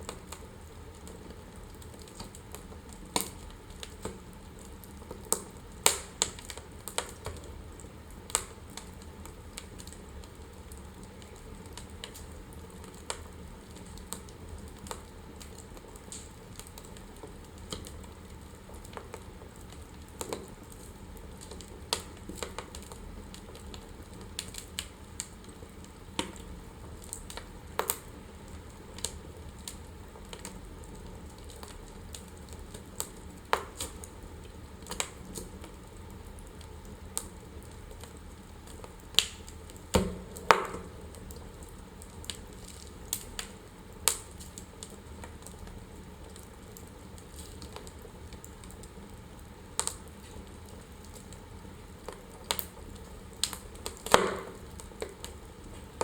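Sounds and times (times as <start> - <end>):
soft hiss of flames: 0.0 - 56.0
wood fire pops and snaps: 0.0 - 56.0.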